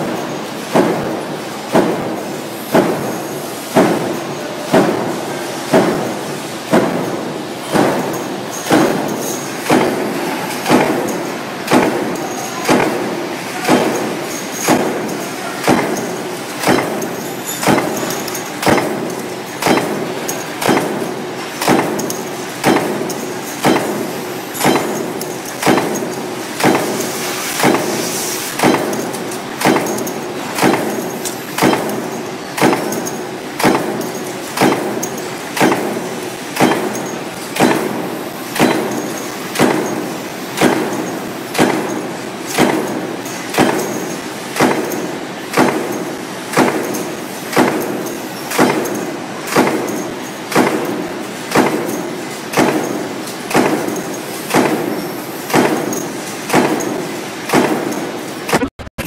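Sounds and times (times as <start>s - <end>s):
machine clanking: 0.0s - 59.0s.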